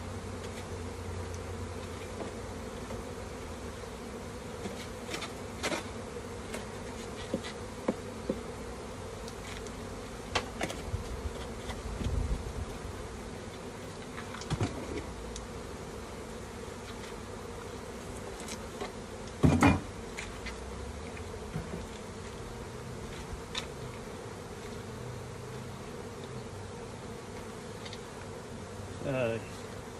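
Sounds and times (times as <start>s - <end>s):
honeybees buzzing: 0.0s - 29.9s.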